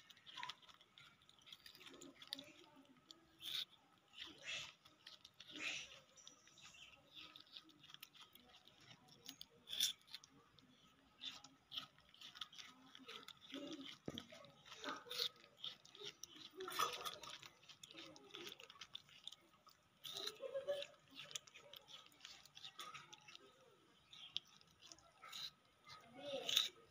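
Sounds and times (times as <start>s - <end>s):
monkeys chewing and smacking: 0.0s - 26.9s
small clicks and crunches: 0.0s - 26.9s.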